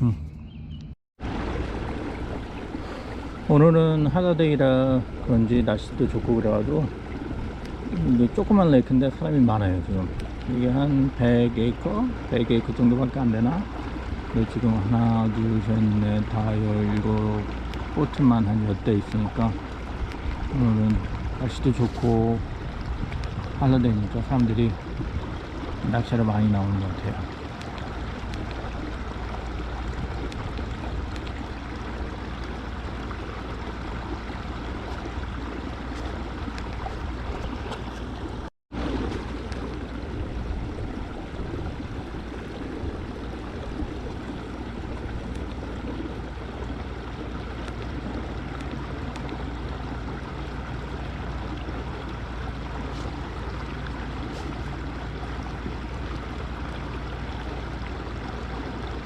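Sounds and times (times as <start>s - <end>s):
wind: 0.0s - 59.0s
rushing water: 1.2s - 59.0s.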